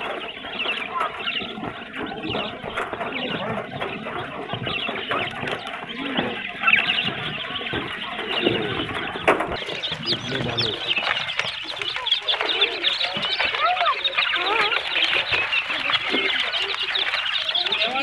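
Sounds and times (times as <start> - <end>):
baby chicks peeping: 0.0 - 18.0.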